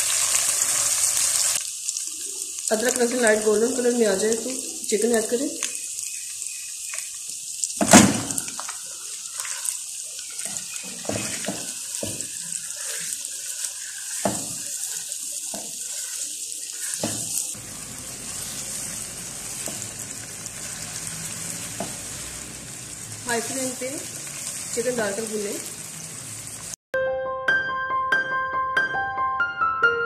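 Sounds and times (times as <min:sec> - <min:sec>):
chicken sizzling in a wok: 0:00.0 - 0:26.8.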